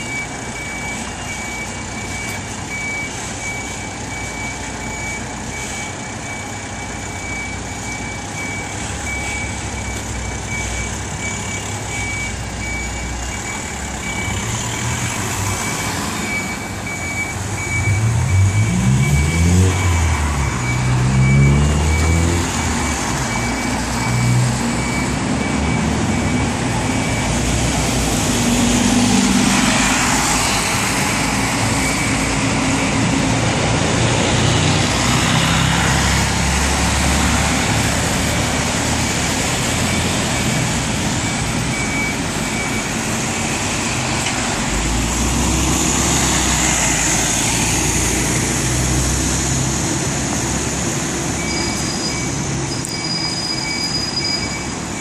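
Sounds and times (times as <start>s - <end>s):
truck reversing alarm beeps: 0.0s - 49.0s, 50.6s - 55.0s
diesel engine idling and revving: 0.0s - 55.0s
traffic engine noise: 0.0s - 55.0s.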